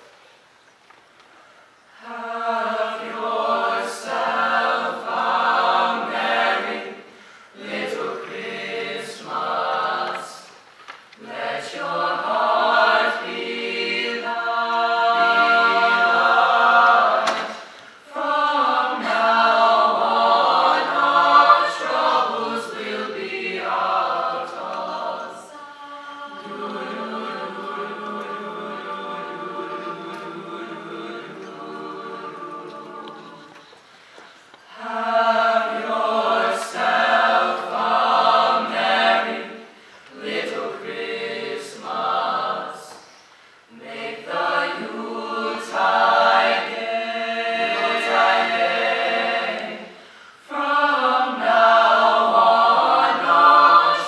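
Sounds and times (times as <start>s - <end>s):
choir singing a cappella: 1.9s - 54.0s.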